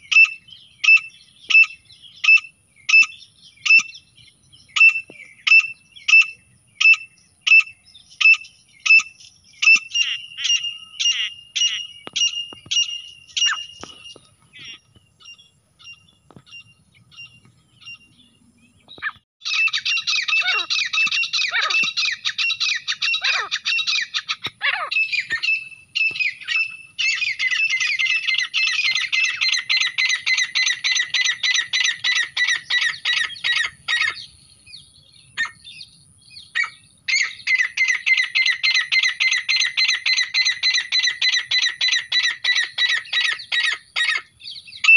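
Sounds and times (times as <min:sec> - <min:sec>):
francolin calls: 0:00.0 - 0:44.9.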